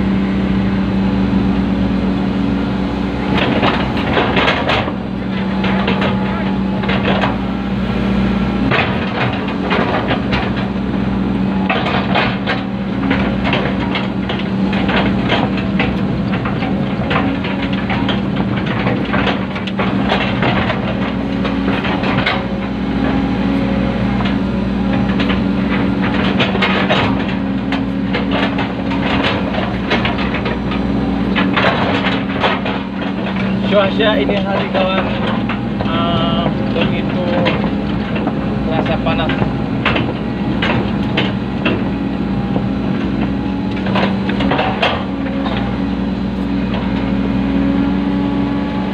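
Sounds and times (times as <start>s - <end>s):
diesel engine running: 0.0s - 48.9s
machine clanks and rattles: 3.1s - 48.9s.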